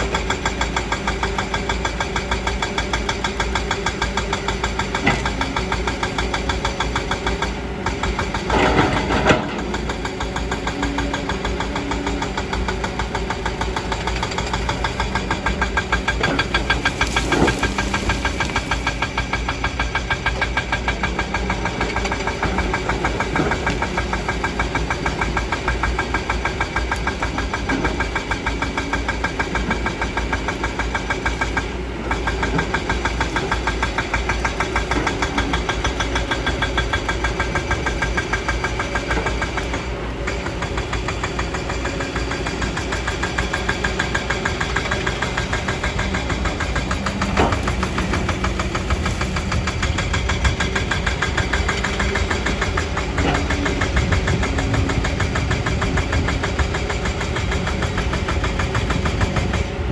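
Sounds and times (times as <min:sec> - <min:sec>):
excavator bucket knocking and scraping: 0:00.0 - 0:59.9
excavator diesel engine running: 0:00.0 - 0:59.9.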